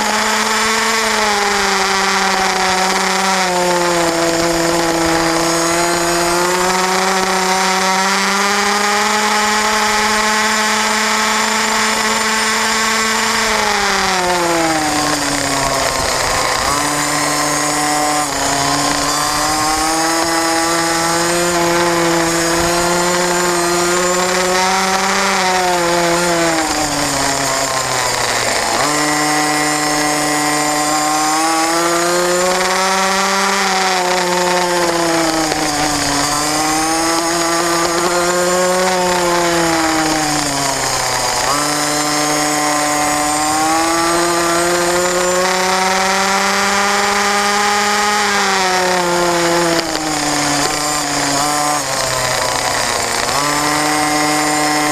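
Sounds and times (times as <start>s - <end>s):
racing motorcycle engine revving: 0.0s - 54.9s.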